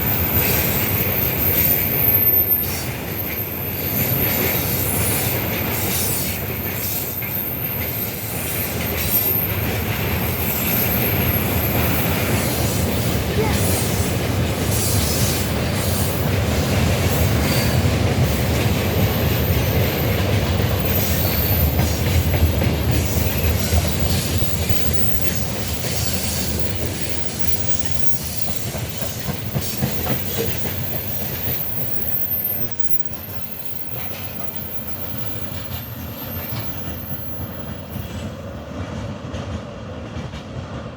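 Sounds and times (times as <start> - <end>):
high wheel squeal: 0.0 - 38.3
freight train rolling past: 0.0 - 40.9
wheels clicking over rail joints: 0.2 - 40.8.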